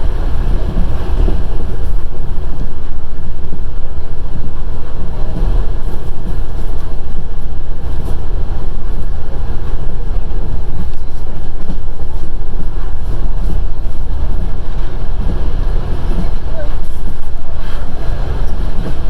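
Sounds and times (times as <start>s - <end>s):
train wheels rumbling on rails: 0.0s - 19.0s
wind buffeting microphone: 0.0s - 19.0s.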